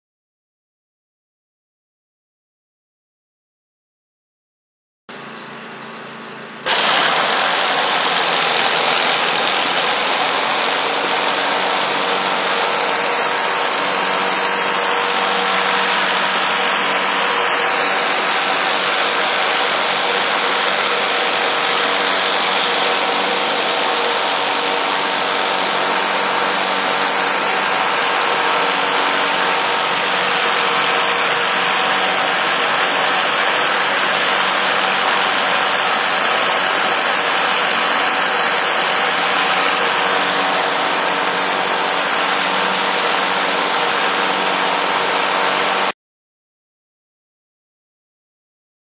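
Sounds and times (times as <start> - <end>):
pressure washer engine: 5.1 - 46.0
water jet hissing on concrete: 6.6 - 45.9.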